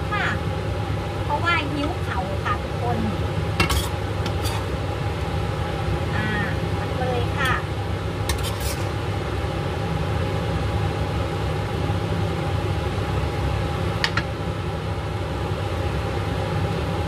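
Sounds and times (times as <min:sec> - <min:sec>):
faint constant whine: 0:00.0 - 0:17.0
low machine hum: 0:00.0 - 0:17.0.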